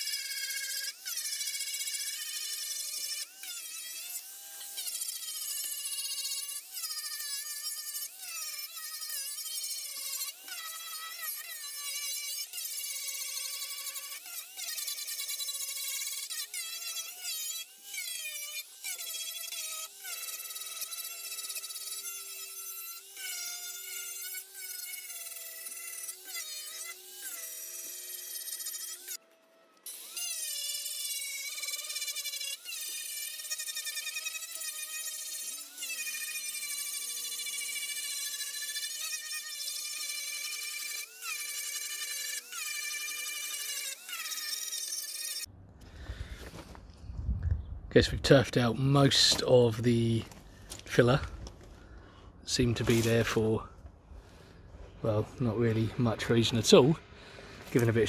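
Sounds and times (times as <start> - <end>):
electric grinder whining: 0.0 - 46.8, 49.1 - 58.0.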